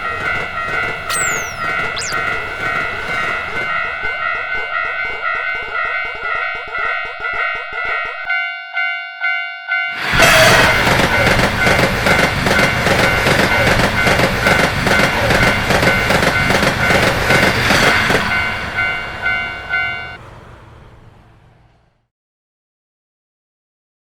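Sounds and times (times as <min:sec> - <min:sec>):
level crossing warning bell: 0:00.0 - 0:20.2.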